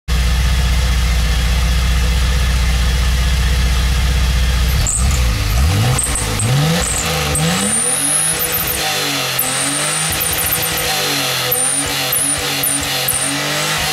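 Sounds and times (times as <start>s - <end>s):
car engine idling and revving: 0.1s - 13.9s.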